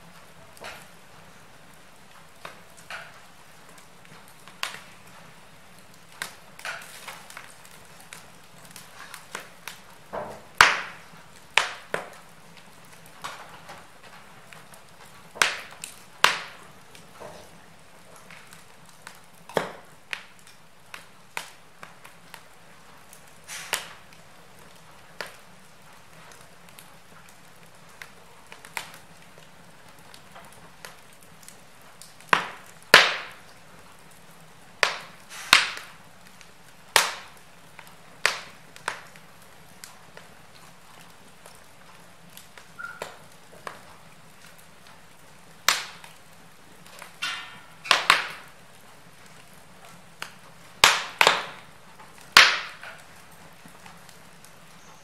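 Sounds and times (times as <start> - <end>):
logs crackling in fireplace: 0.0 - 55.0.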